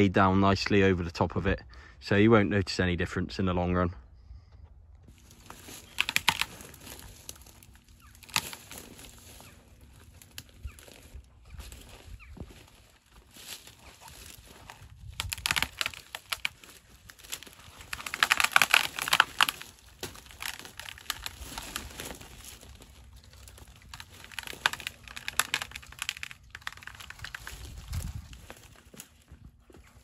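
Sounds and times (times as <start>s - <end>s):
twigs and branches crackling: 5.0s - 30.0s.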